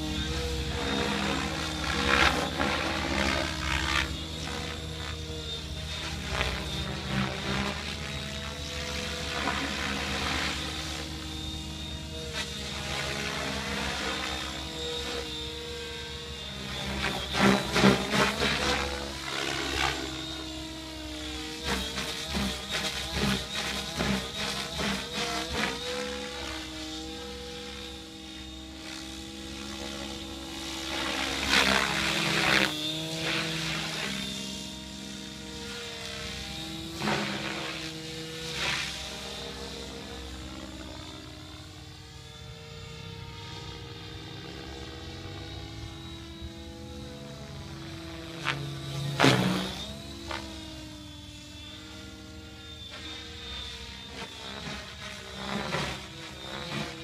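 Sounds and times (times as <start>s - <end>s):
rapid rotor pulsing: 0.0s - 57.0s
rc helicopter rotor and motor drone: 0.0s - 57.0s.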